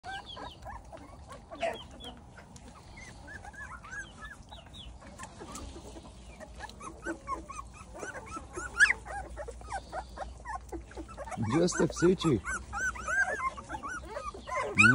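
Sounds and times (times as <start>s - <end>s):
puppies squeaking and whimpering: 0.0s - 14.9s.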